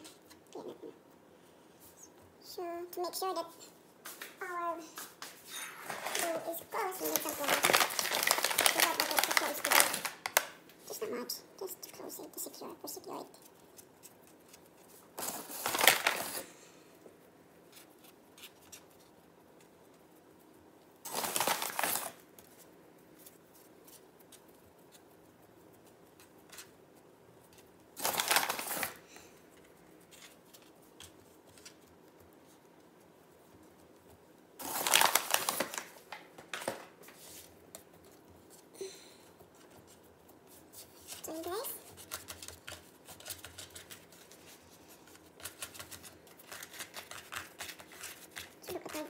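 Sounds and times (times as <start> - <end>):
hands rubbing dough: 0.0 - 49.0.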